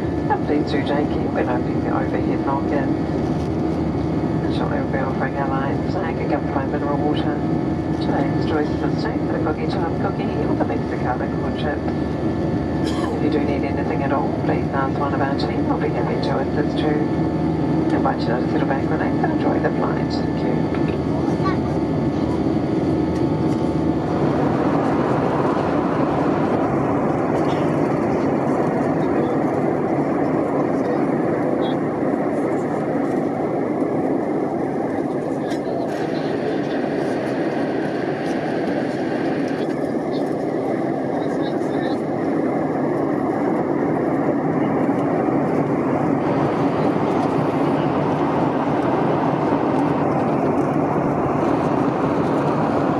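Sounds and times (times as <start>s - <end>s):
airplane cabin engine rush: 0.0s - 52.9s.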